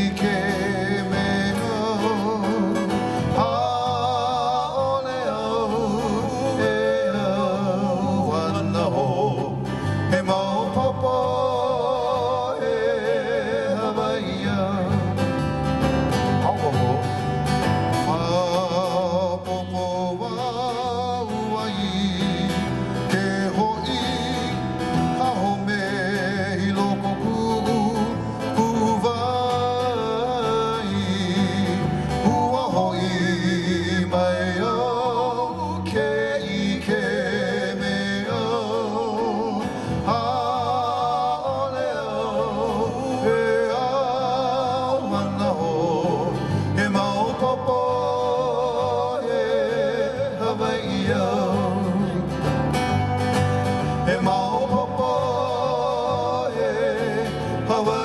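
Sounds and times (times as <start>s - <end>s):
person singing with vibrato: 0.0s - 52.8s, 53.6s - 58.0s
strummed guitar: 0.0s - 58.0s.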